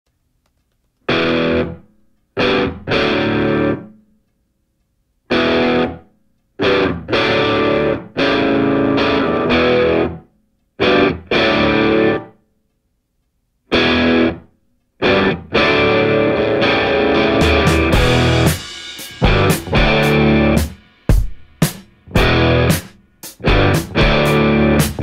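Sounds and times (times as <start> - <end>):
distorted electric guitar chords: 1.1 - 4.0, 5.3 - 6.0, 6.6 - 12.4, 13.7 - 25.0.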